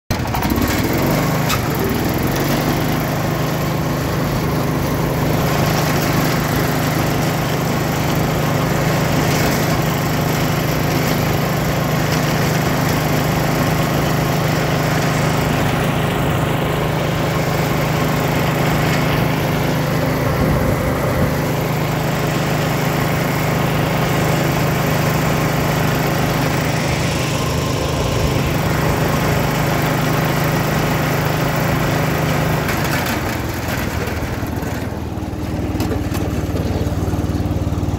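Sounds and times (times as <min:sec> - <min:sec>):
riding lawn mower engine: 0:00.1 - 0:37.9.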